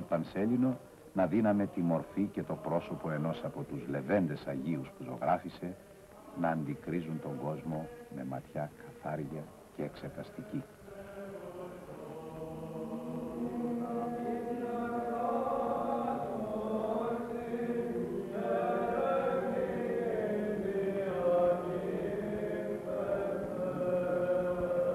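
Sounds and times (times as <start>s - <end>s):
men singing chant: 1.2s - 24.9s.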